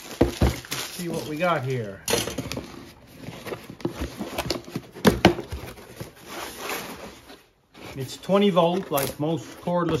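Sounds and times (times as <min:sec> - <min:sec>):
cardboard scraping and rustling: 0:00.0 - 0:10.0.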